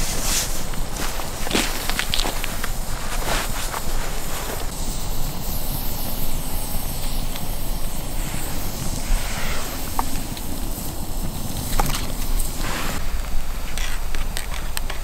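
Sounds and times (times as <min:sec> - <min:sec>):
campfire hissing: 0:00.0 - 0:15.0
fire crackling pops: 0:00.0 - 0:15.0.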